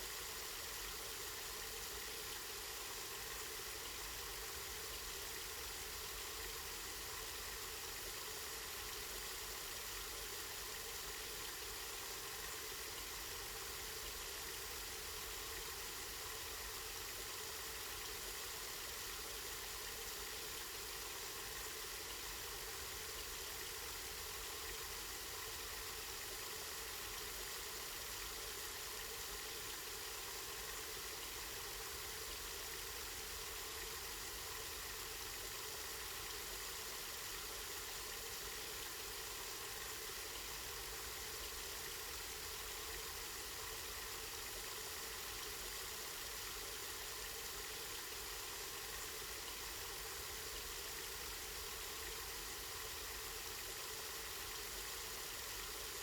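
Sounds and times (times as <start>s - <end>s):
spring water flowing and splashing: 0.0s - 56.0s.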